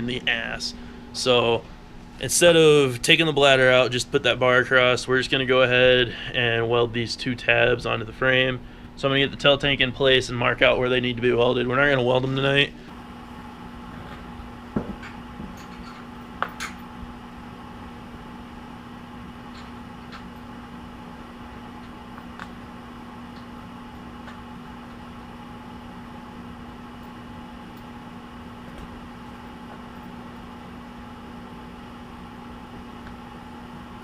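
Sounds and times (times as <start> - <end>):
fan humming: 0.0 - 34.0.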